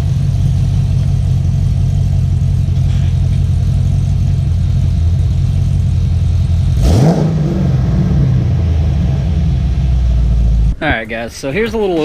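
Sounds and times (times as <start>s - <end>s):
car engine idling and revving: 0.0s - 10.8s.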